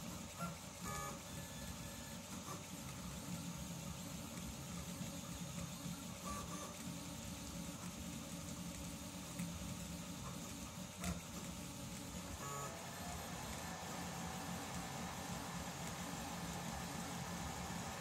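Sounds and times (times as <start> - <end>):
cooling fans hissing: 0.0 - 18.0.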